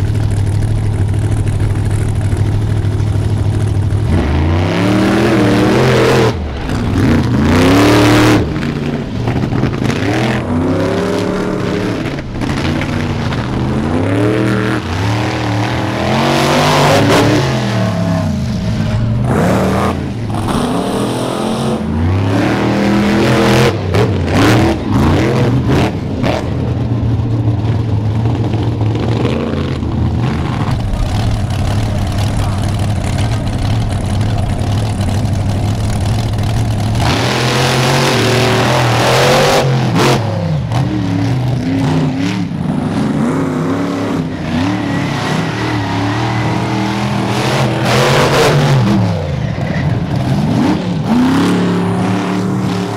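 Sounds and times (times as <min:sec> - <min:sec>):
monster truck engines revving: 0:00.0 - 0:52.9.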